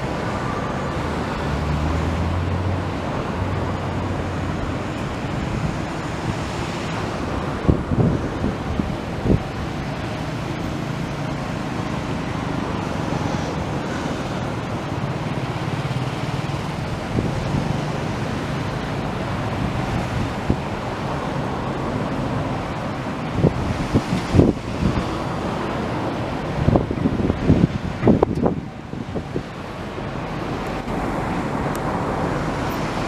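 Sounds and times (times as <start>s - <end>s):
river rushing: 0.0s - 33.0s
wind buffeting microphone: 0.0s - 33.0s.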